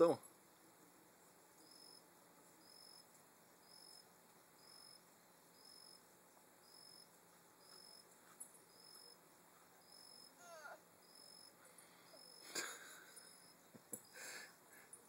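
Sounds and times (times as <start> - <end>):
background hiss: 0.0 - 15.0
insect chirping: 0.0 - 15.0.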